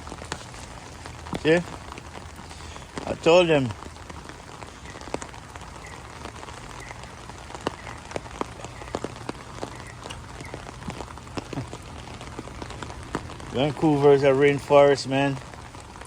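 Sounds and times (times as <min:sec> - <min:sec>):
drops tapping on umbrella: 0:00.0 - 0:16.0
rain falling: 0:00.0 - 0:16.0.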